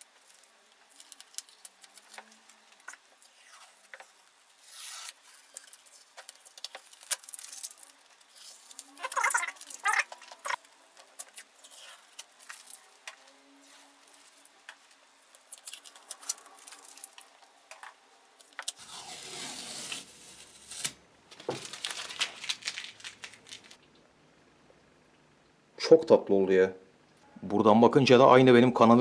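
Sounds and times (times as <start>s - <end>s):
tape peeling and paper crumpling: 0.0s - 23.9s.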